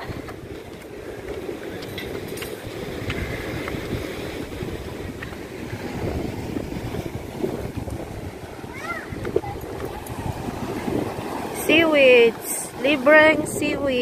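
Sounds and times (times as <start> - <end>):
sea waves on rocky shore: 0.0 - 14.0
wind buffeting microphone: 0.0 - 14.0.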